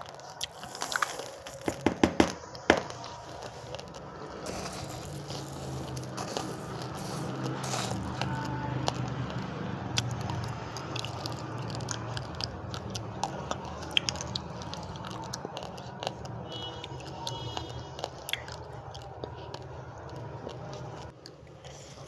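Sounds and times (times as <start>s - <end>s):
chewing uncooked rice: 0.0s - 1.9s, 2.9s - 22.0s.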